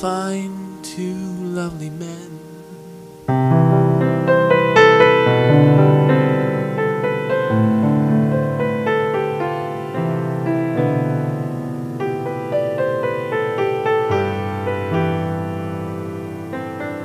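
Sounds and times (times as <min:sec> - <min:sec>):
calm piano melody: 0:00.0 - 0:17.0.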